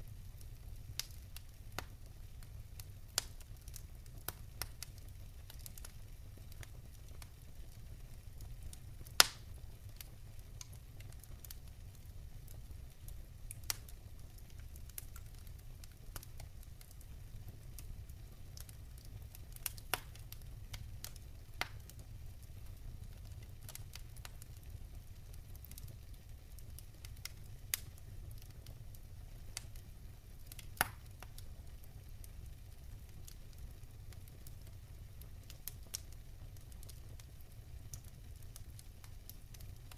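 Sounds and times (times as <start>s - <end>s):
sharp crackles and pops: 0.0s - 39.9s.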